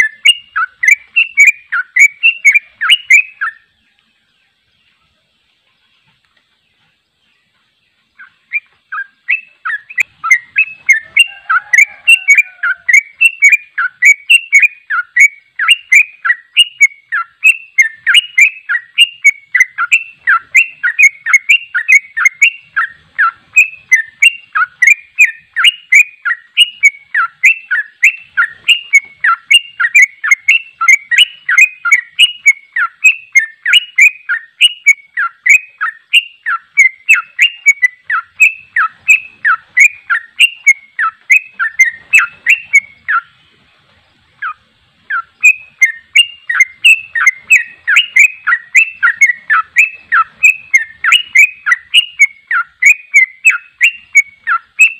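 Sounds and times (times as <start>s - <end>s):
bird singing bubbling chirps: 0.0s - 54.9s.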